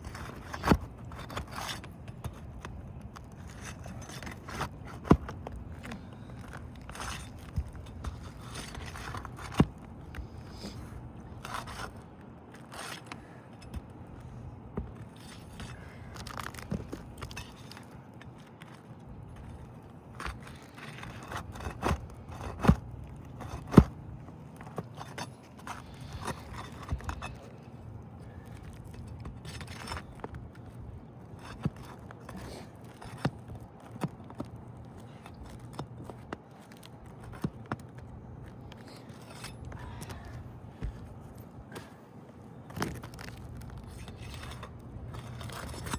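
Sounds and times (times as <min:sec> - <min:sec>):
shingles scraping and crackling: 0:00.0 - 0:45.9.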